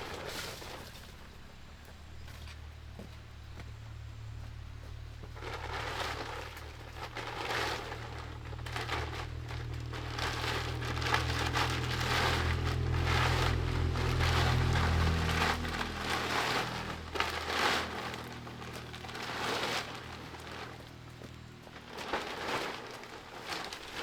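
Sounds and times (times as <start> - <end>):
rustling and crinkling: 0.0 - 24.0
steady low hum: 0.0 - 24.0.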